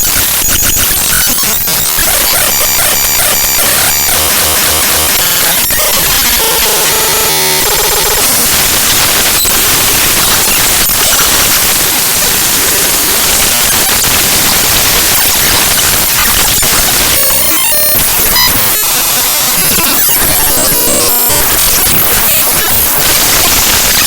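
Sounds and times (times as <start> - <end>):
buzzy pitched tones: 0.0 - 24.0
harsh static-like noise: 0.0 - 24.0.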